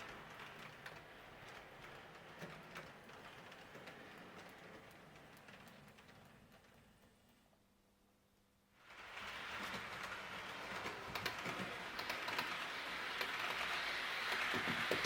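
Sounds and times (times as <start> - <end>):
model train clicking on track: 0.0 - 7.1, 8.8 - 15.0.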